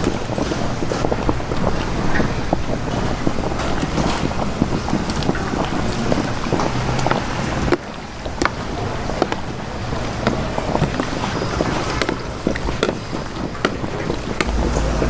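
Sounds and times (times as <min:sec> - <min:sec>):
busy street stall din: 0:00.0 - 0:15.0
sharp clicks and clatters: 0:00.0 - 0:15.0.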